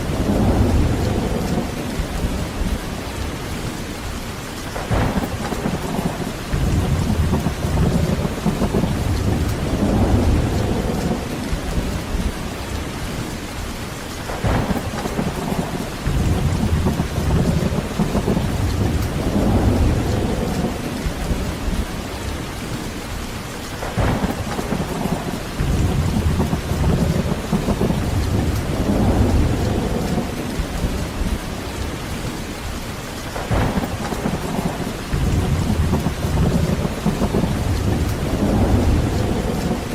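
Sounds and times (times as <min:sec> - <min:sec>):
heavy rain falling: 0:00.0 - 0:39.9
thunder crack and rumble: 0:00.0 - 0:39.9.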